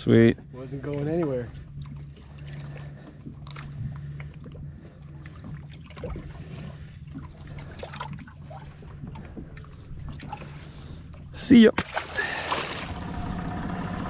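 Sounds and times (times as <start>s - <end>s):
water trickling and sloshing: 0.0s - 13.4s
boat engine idling: 0.0s - 14.0s.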